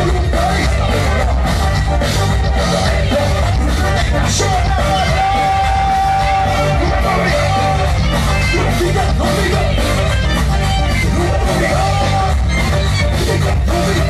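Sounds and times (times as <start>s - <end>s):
loud dance music: 0.0s - 14.0s.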